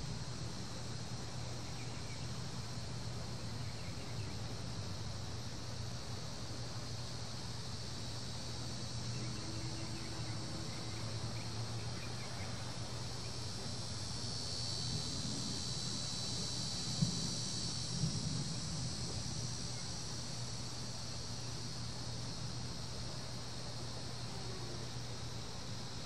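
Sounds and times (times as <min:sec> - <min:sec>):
cicadas buzzing: 0:00.0 - 0:26.0
steady low hum: 0:00.0 - 0:26.0.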